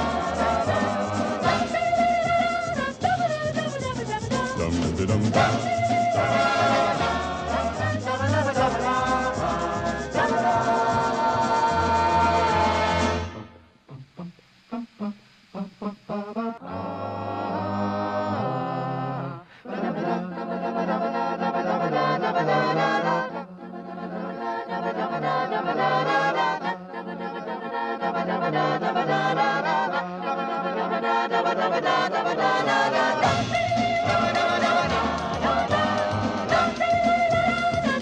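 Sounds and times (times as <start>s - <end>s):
background music with singing: 0.0s - 38.0s.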